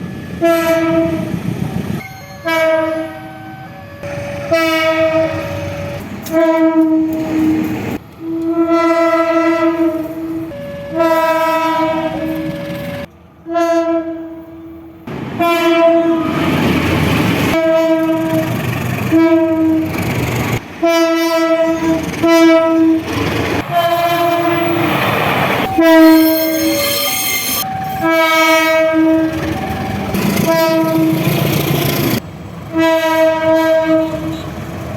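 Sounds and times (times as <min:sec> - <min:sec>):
passing train rumble: 0:00.0 - 0:34.9
locomotive horn blasts: 0:00.4 - 0:01.3, 0:02.0 - 0:16.6, 0:17.5 - 0:20.0, 0:20.8 - 0:25.0, 0:25.6 - 0:31.6, 0:32.7 - 0:34.5.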